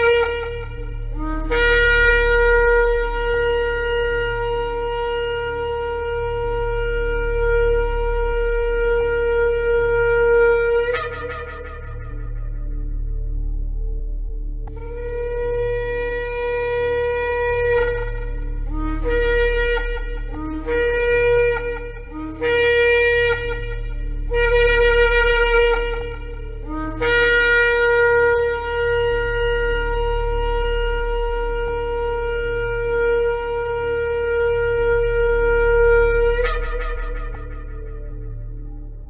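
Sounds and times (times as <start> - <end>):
shofar blasts: 0.0 - 14.0, 14.7 - 39.0.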